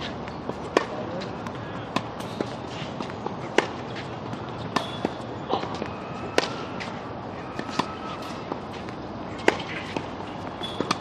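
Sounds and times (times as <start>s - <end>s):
racket striking tennis ball: 0.0s - 6.9s, 7.5s - 11.0s.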